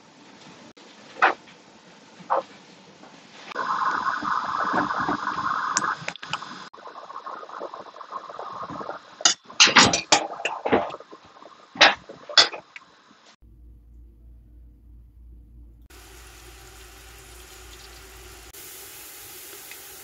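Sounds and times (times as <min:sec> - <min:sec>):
food bubbling and hissing in pot: 0:00.2 - 0:13.4, 0:15.9 - 0:20.0.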